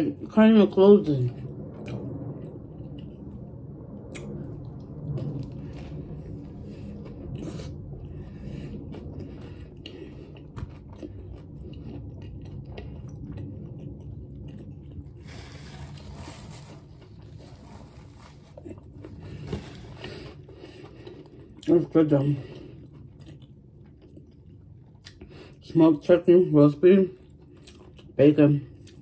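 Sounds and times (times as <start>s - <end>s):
close-up chewing of sandwich: 1.2s - 25.6s, 27.0s - 29.0s.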